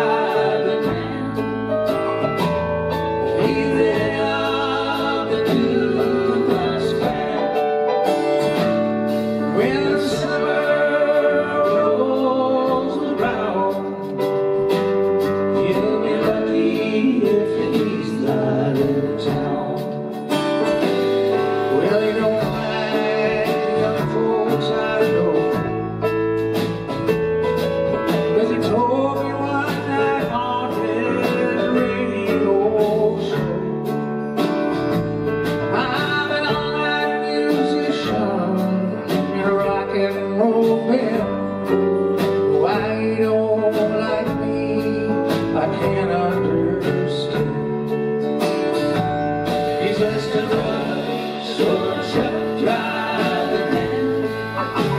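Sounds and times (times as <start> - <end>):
man singing: 0.0 - 26.2, 28.0 - 34.4, 35.5 - 54.9
country-rock band playing: 0.0 - 54.9.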